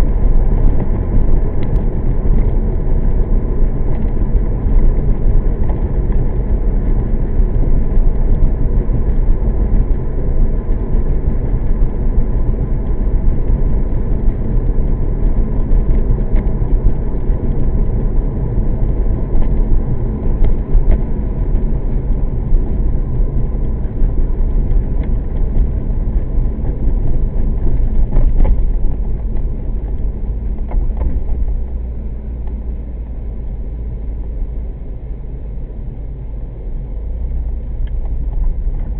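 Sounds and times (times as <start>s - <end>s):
car engine rumbling: 0.0s - 38.9s
road noise: 0.0s - 38.9s.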